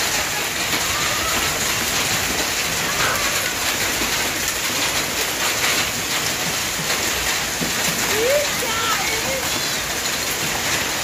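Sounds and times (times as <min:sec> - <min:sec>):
hailstones tapping: 0:00.0 - 0:11.0
heavy rain and hail hiss: 0:00.0 - 0:11.0.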